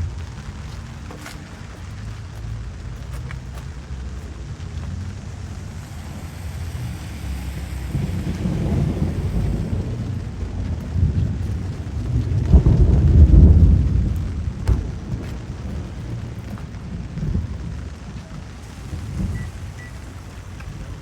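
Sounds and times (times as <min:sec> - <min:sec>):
deep rumble: 0:00.0 - 0:21.0
rain falling: 0:00.0 - 0:21.0.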